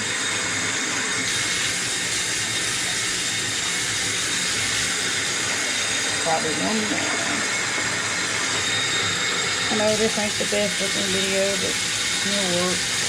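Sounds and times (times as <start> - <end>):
water pouring into a bucket: 1.3 - 7.0, 7.8 - 13.0.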